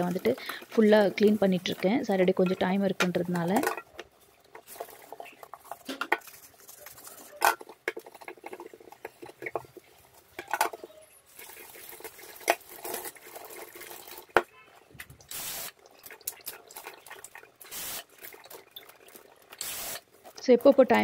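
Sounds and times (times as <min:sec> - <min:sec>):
tap water running: 0:00.0 - 0:21.0.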